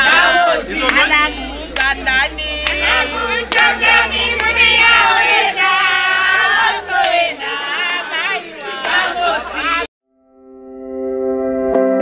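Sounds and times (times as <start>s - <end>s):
crowd cheering: 0.0s - 9.9s
crowd singing: 0.0s - 9.9s.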